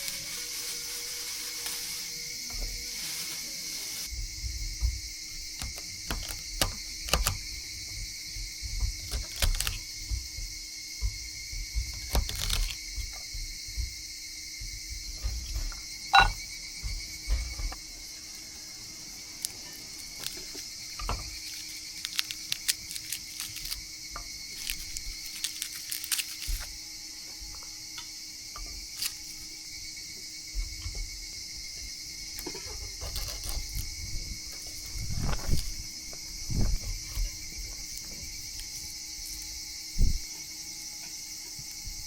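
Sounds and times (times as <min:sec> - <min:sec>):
high insect chorus: 0:00.0 - 0:42.0.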